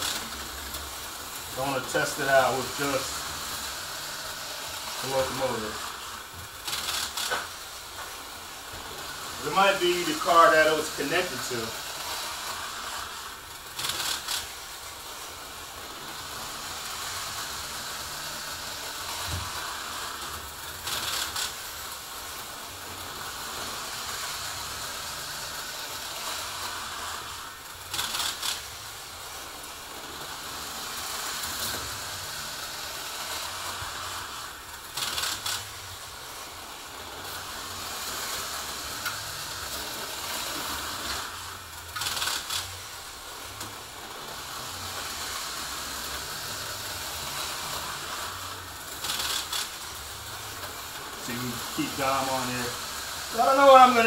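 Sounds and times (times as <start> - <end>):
model train clatter: 0.0 - 54.0
model train motor whirring: 0.0 - 54.0.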